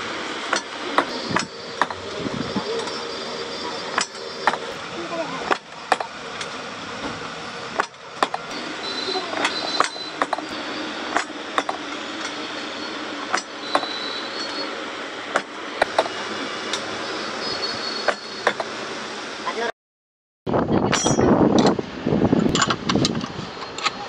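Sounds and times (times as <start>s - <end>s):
steady hiss: 0.0s - 19.7s.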